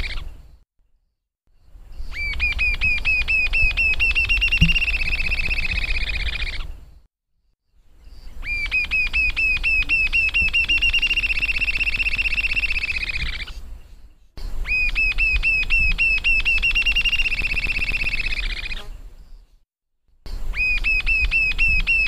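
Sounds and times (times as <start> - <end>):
bird singing whistled trill: 1.6 - 7.1, 8.0 - 19.5, 20.3 - 22.0.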